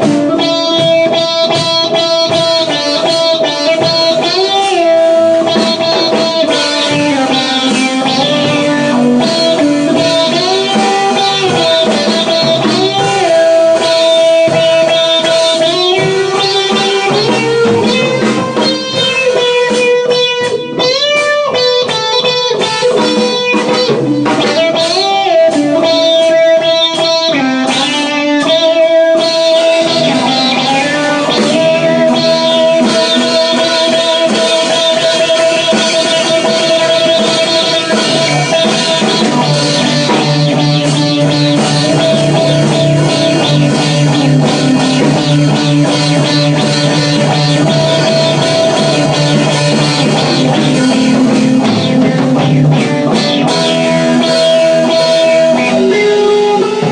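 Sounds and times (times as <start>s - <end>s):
electric guitar blues-rock lead: 0.0s - 56.9s.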